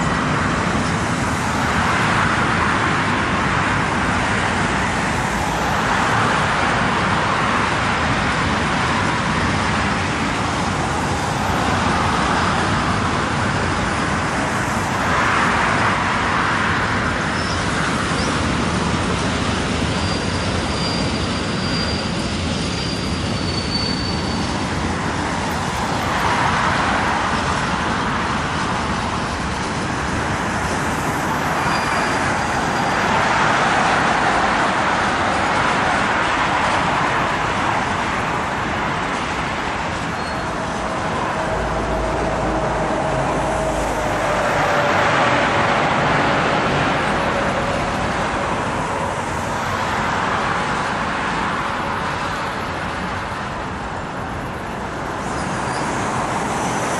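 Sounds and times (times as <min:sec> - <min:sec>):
freight train rumbling on bridge: 0:00.0 - 0:56.9
road traffic passing: 0:00.0 - 0:56.9.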